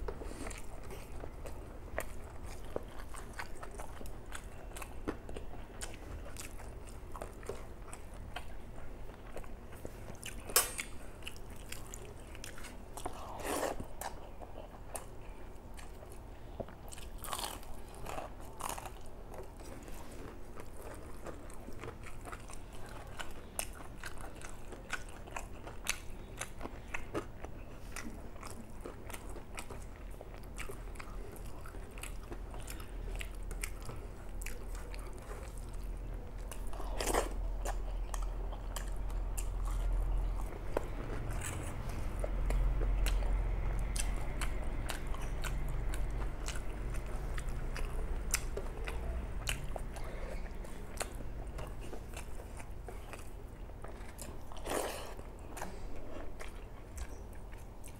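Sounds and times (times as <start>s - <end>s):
wet chewing: 0.0s - 57.9s.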